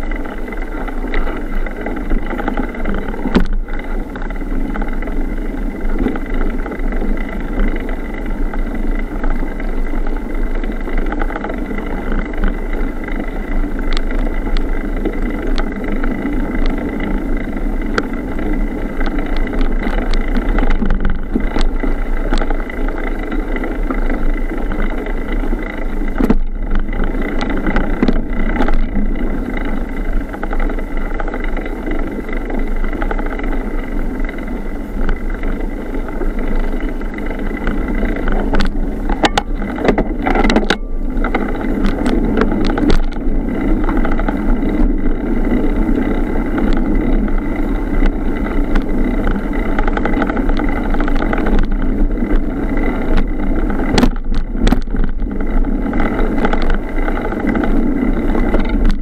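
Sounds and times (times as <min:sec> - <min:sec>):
bike tyres rumbling on dirt: 0:00.0 - 0:59.0.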